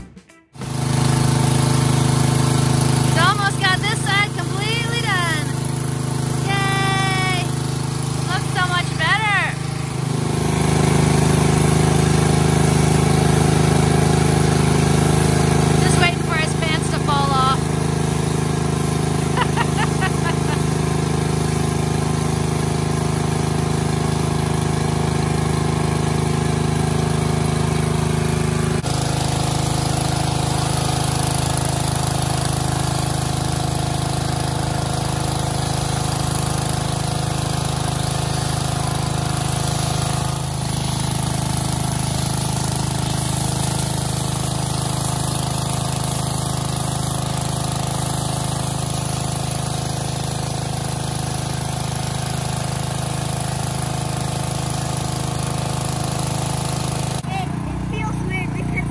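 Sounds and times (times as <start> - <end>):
pressure washer engine running: 0.5 - 58.9.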